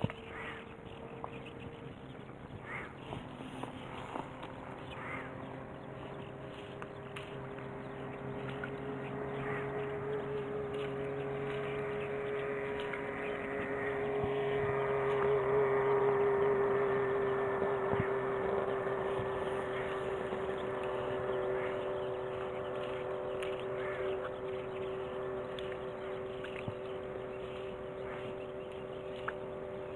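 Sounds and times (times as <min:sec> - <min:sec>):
steady motor drone: 0:00.0 - 0:29.9.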